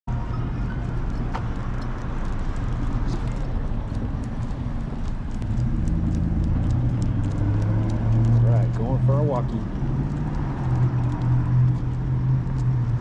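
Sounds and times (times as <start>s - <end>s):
street traffic rumble: 0.1s - 13.0s
footsteps on pavement: 0.8s - 13.0s.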